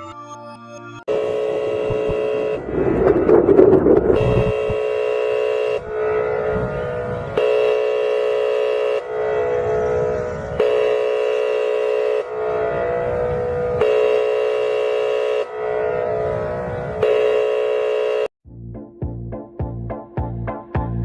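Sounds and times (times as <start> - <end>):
warning siren blasts: 1.1 - 18.3.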